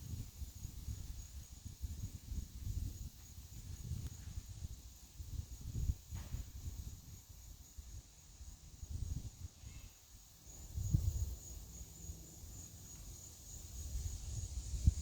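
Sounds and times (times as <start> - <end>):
wind buffeting microphone: 0.0 - 9.9, 10.6 - 11.6, 13.6 - 15.0
faint high-pitched hiss: 0.0 - 15.0.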